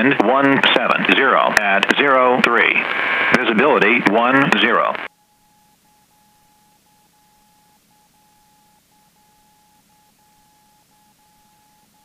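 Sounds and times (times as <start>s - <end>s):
faint steady electronic tone: 0.0s - 12.0s.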